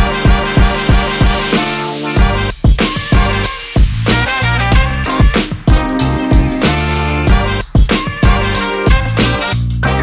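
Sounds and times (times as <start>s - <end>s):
upbeat music with drum beat: 0.0s - 10.0s.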